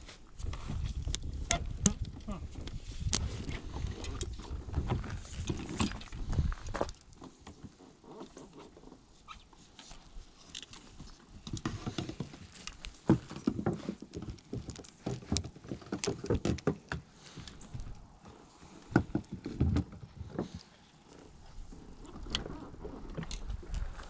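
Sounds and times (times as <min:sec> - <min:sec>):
fishing gear rustling and clicking: 0:00.0 - 0:24.0.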